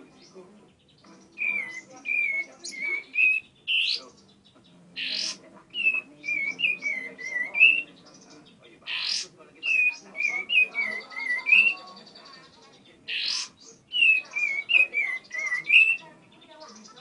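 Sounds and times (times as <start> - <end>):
bird singing whistled notes: 0.0 - 12.5, 13.1 - 17.0
upward-sweeping bird calls: 1.2 - 17.0.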